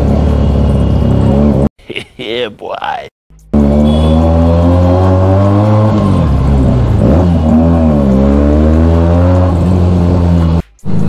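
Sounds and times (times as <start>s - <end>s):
motorcycle engine revving: 0.0s - 1.7s, 3.5s - 11.0s.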